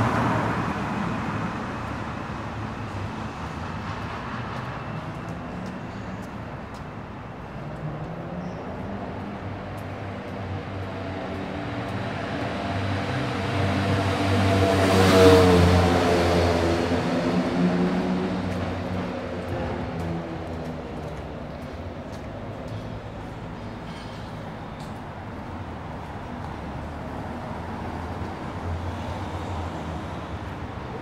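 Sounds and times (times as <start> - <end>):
city street traffic: 0.0 - 31.0.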